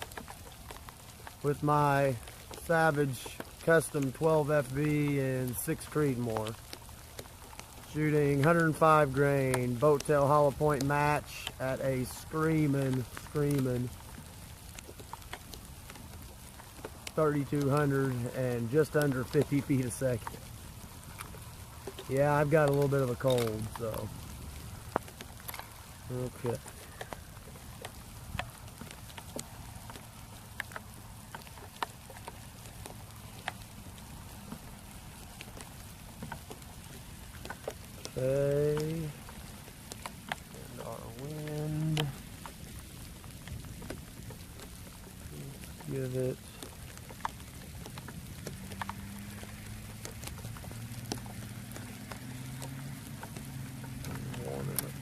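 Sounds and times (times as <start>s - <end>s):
pouring rain: 0.0s - 55.0s.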